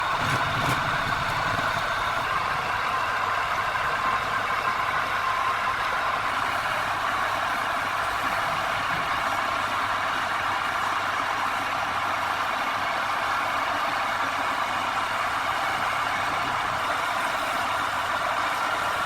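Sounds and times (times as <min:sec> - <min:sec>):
lathe whirring: 0:00.0 - 0:19.0.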